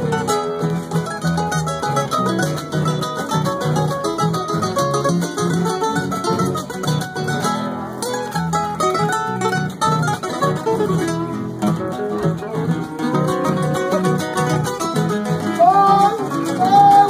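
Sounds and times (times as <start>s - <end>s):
acoustic guitars playing folk music: 0.0s - 17.0s.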